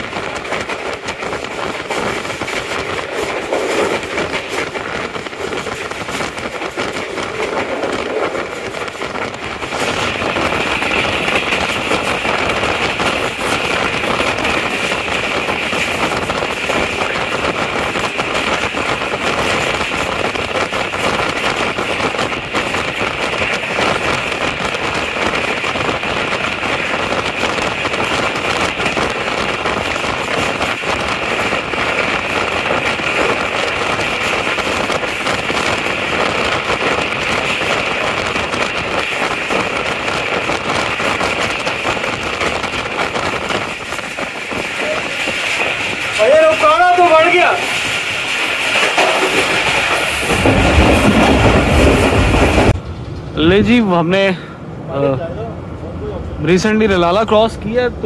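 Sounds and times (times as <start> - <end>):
train wheels rumbling and clattering: 0.0 - 58.0.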